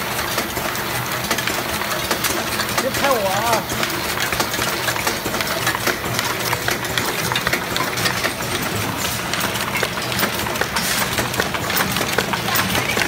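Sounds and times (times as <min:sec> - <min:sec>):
machine clattering: 0:00.0 - 0:13.0.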